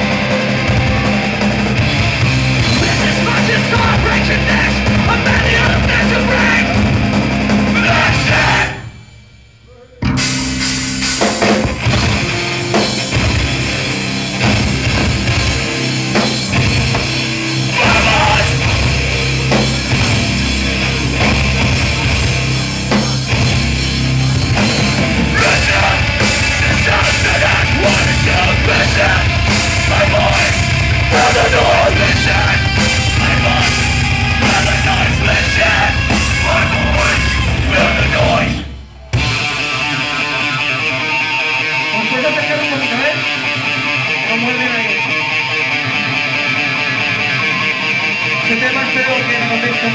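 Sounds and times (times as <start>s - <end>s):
heavy rock band playing live: 0.0s - 9.4s, 10.0s - 49.9s.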